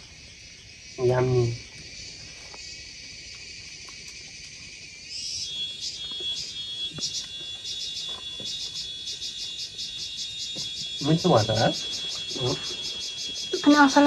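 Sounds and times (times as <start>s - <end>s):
insect pulsing chirps: 0.0s - 14.0s
insects chirring: 0.0s - 14.0s.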